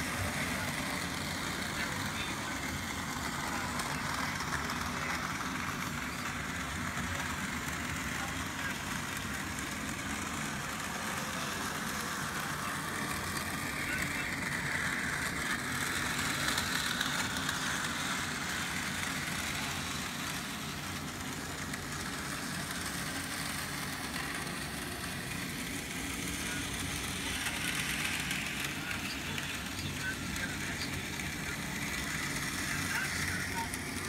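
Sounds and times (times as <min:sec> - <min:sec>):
model train motor whirring: 0:00.0 - 0:34.0.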